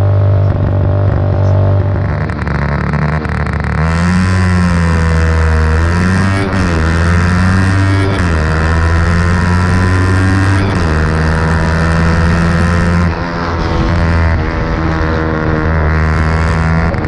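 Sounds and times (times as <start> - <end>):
motorcycle engine revving hard: 0.0 - 17.0.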